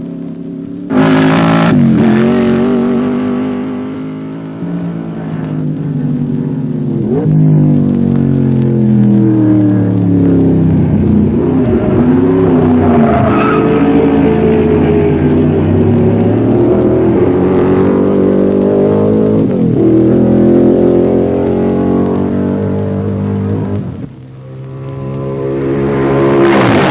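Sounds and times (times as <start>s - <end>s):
racing car engine revving: 0.9s - 26.9s.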